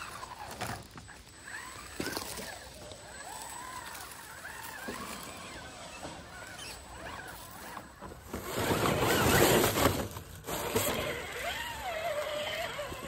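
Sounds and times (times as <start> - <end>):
leaves and grit scraping under tyres: 0.0 - 13.0.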